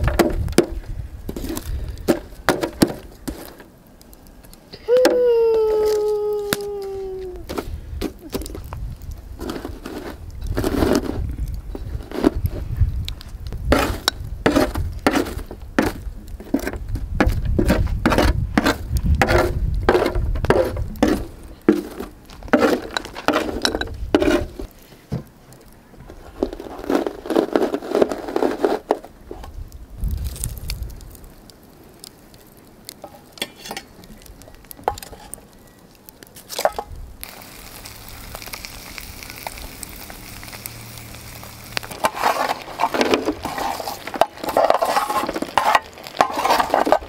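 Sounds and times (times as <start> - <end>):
tongs scraping charcoal on metal: 0.0 - 4.6, 5.8 - 25.0, 26.1 - 31.4, 32.0 - 47.0.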